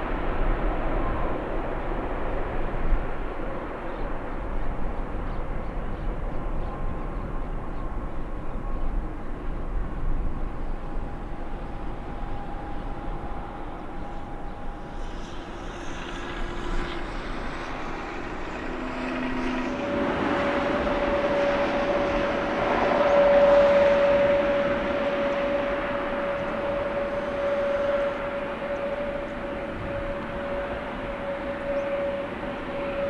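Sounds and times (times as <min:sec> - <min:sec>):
jet engine rushing and whining: 0:00.0 - 0:33.0.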